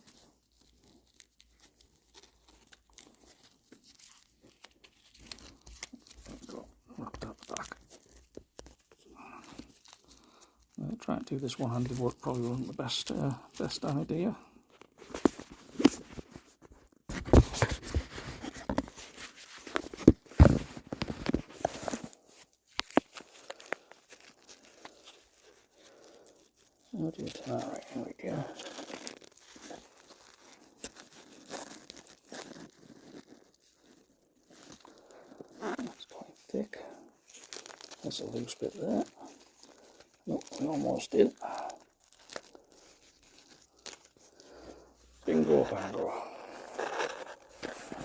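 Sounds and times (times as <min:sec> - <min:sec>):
plastic film crinkling: 0:00.0 - 0:48.0
plastic wrapping rustling: 0:00.0 - 0:48.0.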